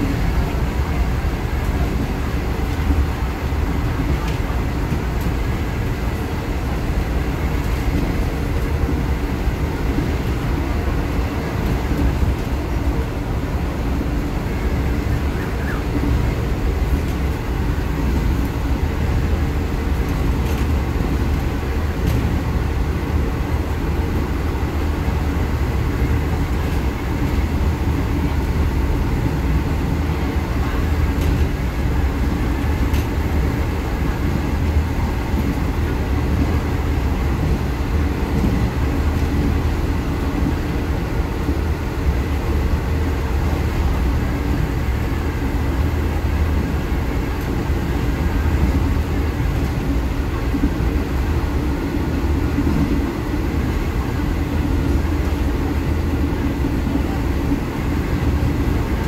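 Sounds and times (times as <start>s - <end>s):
diesel train rumbling: 0.0s - 59.0s.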